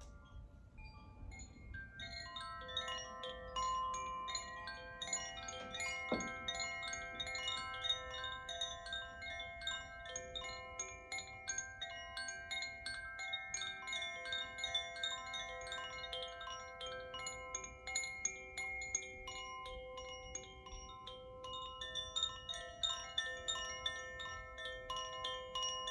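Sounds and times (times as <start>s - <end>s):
wind chimes ringing: 0.0s - 25.9s.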